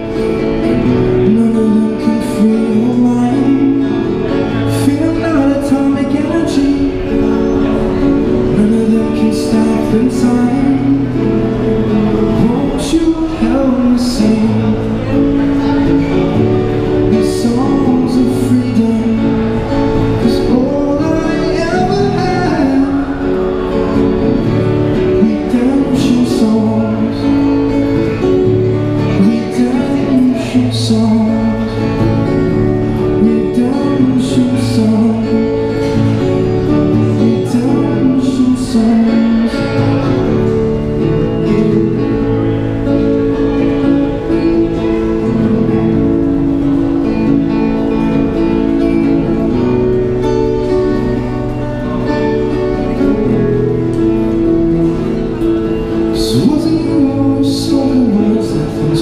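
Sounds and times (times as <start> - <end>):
acoustic guitar strummed through amplifier: 0.0 - 59.0
man singing: 0.0 - 59.0.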